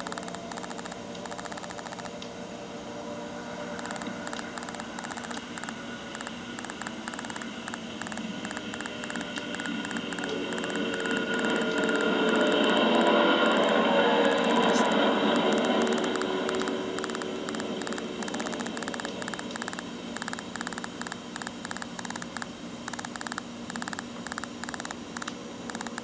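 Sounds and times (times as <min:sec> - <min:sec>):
small plane engine buzzing: 0:00.0 - 0:26.0.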